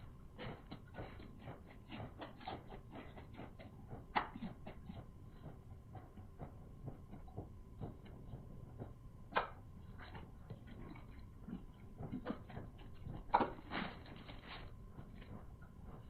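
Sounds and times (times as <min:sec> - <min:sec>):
chewing and mouth noises: 0:00.4 - 0:16.0.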